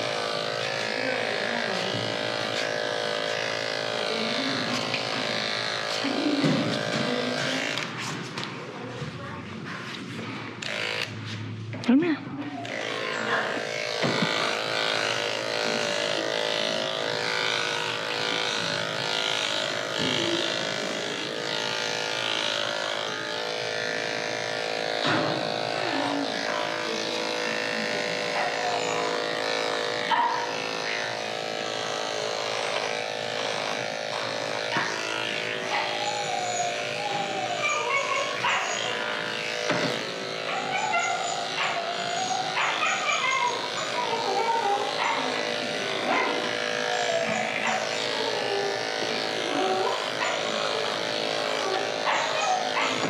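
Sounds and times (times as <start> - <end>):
electric clippers humming: 0.0 - 8.7, 10.0 - 53.0.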